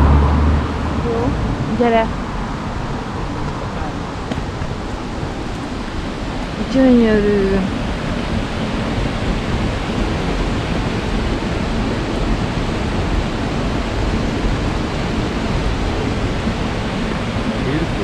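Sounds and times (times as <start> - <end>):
fast-flowing water rushing: 0.0 - 18.0.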